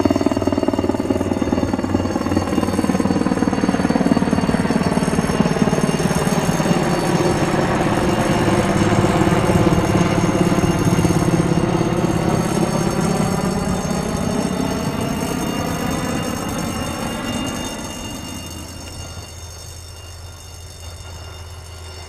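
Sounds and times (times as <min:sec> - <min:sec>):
helicopter engine noise: 0:00.0 - 0:22.0
helicopter rotor chopping: 0:00.0 - 0:22.0.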